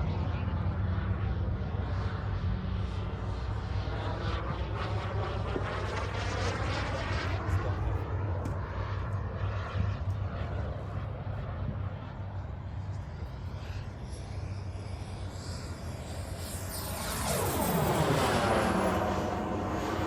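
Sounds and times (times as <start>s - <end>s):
model jet turbine passing overhead: 0.0s - 20.0s.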